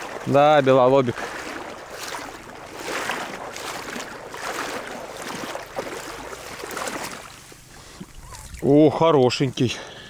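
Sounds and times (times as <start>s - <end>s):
wading through shallow water: 0.0s - 10.0s.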